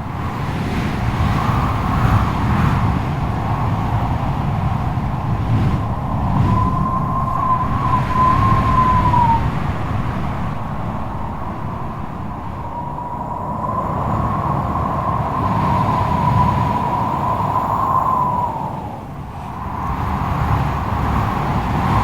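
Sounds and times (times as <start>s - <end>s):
low rumble of gusts: 0.0s - 22.0s
wind howling and whistling: 0.0s - 22.0s.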